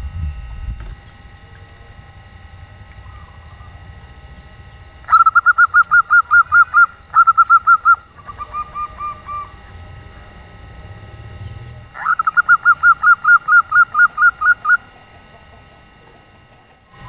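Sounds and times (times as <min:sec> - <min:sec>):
faint steady hum: 0:00.0 - 0:17.0
dove cooing: 0:01.4 - 0:17.0.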